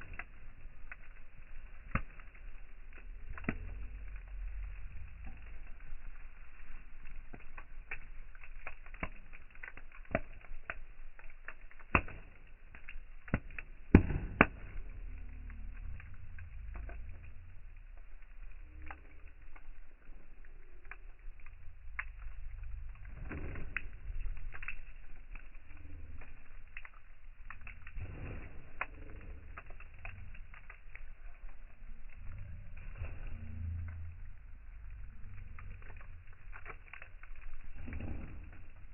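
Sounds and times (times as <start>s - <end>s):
low rumble: 0.0s - 8.7s, 12.2s - 38.9s
campfire crackling and popping: 0.0s - 38.9s.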